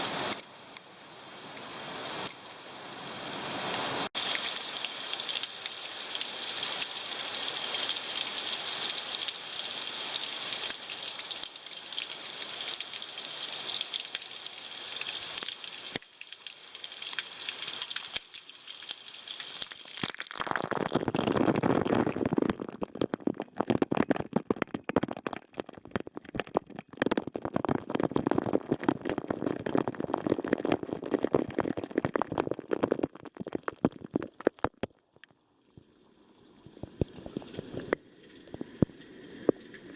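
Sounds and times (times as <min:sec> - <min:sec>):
crackling water splashing: 0:00.0 - 0:00.9, 0:03.6 - 0:39.9
falling water rushing: 0:01.3 - 0:34.9.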